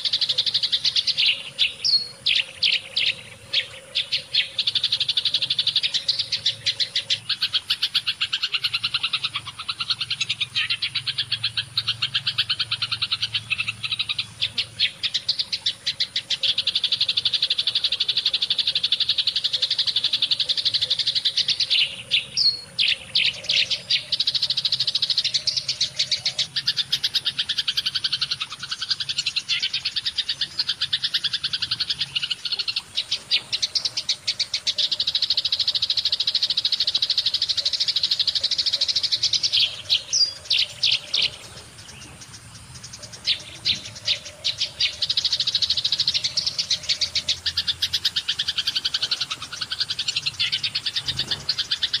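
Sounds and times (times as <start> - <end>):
sparrows chirping: 0.0 - 52.0.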